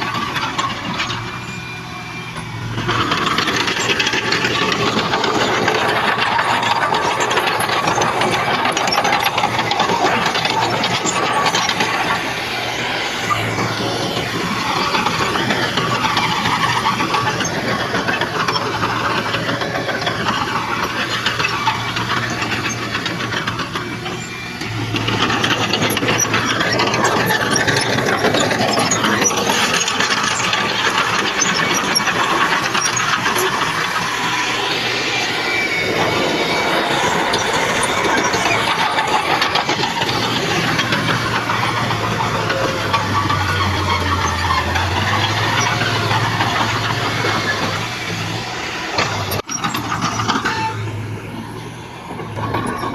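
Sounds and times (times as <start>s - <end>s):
bulldozer engine running: 0.0s - 52.9s
machine squealing and rattling: 0.0s - 52.9s.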